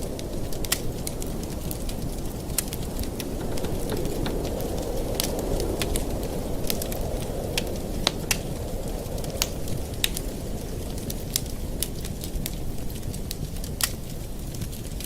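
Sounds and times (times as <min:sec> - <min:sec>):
low rushing of flames: 0:00.0 - 0:15.0
wood fire crackling and popping: 0:00.0 - 0:15.0.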